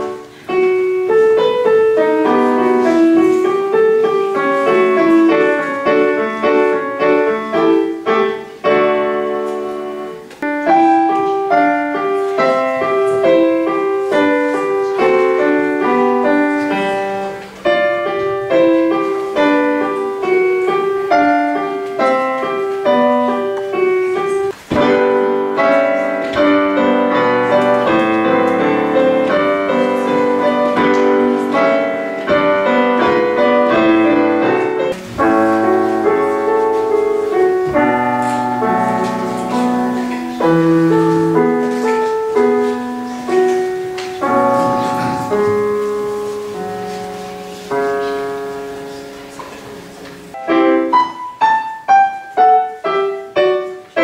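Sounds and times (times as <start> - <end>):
digital piano playing: 0.0 - 54.0.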